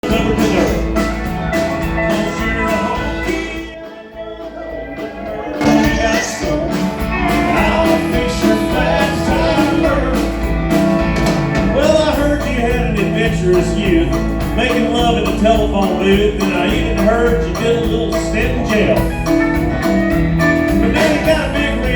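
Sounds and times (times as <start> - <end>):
country-rock band playing: 0.0 - 21.9.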